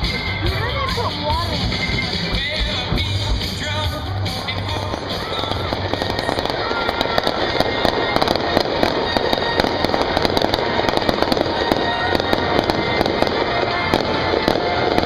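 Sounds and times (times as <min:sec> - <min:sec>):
fireworks crackling: 0:00.0 - 0:15.0.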